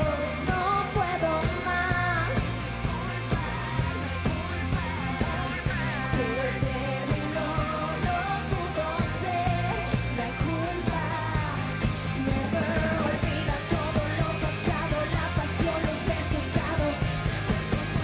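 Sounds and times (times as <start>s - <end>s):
drums: 0.0s - 18.0s
person singing: 0.0s - 18.0s
pop-rock band playing: 0.0s - 18.0s.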